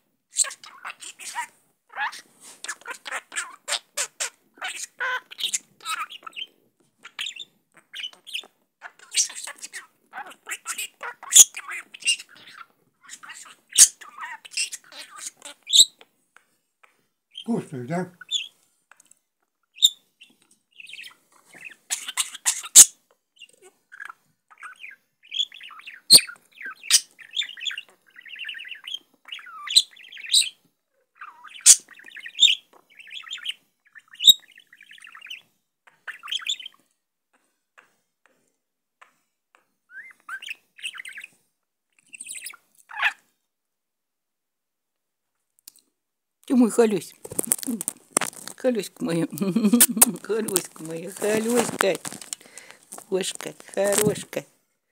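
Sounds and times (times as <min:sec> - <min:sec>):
pet bird chirping and chattering: 0:00.3 - 0:16.0, 0:17.3 - 0:19.1, 0:19.7 - 0:30.6, 0:31.2 - 0:36.8, 0:39.9 - 0:41.3, 0:42.0 - 0:43.2, 0:46.8 - 0:54.4.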